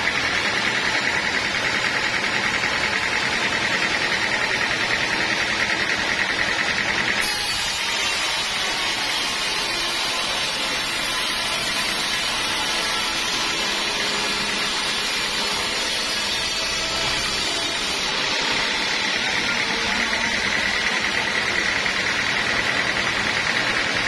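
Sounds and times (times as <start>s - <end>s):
saw cutting wood: 0.0s - 24.0s.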